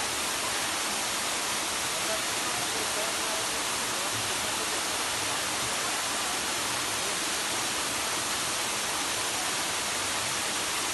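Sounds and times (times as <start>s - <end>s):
waterfall hiss: 0.0s - 10.9s.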